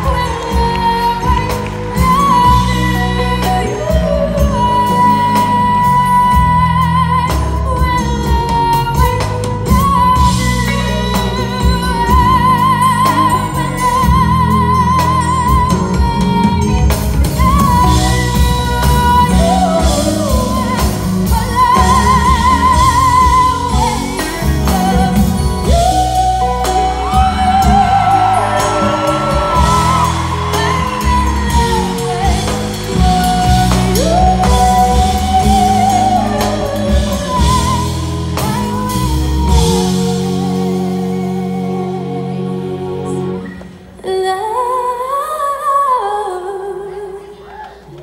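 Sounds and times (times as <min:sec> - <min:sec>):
instrumental accompaniment: 0:00.0 - 0:44.1
woman singing a slow ballad: 0:00.0 - 0:47.7.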